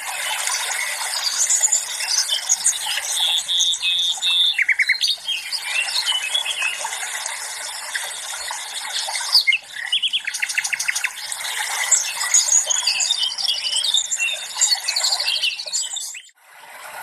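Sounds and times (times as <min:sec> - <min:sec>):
songbirds singing and chirping: 0:00.0 - 0:16.4.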